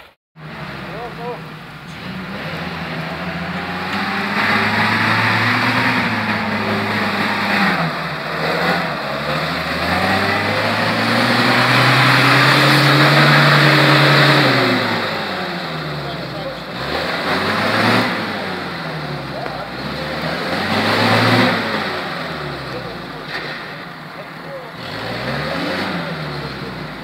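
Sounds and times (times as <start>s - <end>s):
engine revving hard: 0.0s - 27.0s.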